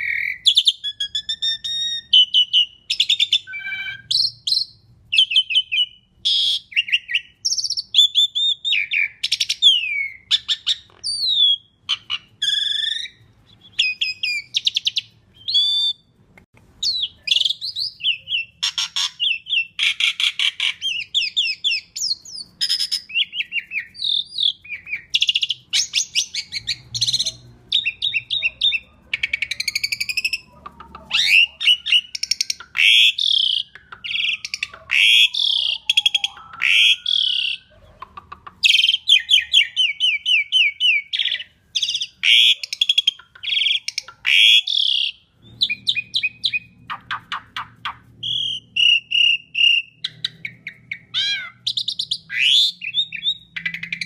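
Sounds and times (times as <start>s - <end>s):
starling singing: 0.0s - 16.1s, 16.8s - 54.0s.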